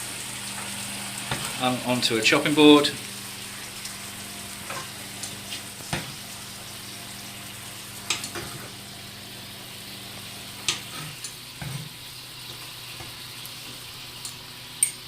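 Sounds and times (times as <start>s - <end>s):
liquid sizzling in a frying pan: 0.0s - 15.0s.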